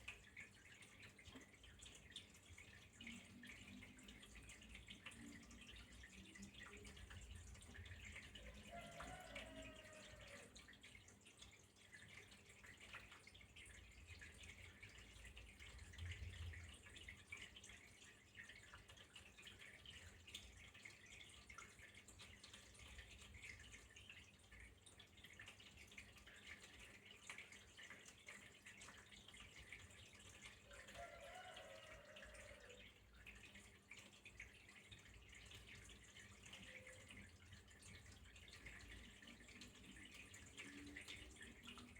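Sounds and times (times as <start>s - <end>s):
faint flowing water: 0.0s - 41.9s
water dripping: 0.0s - 41.9s.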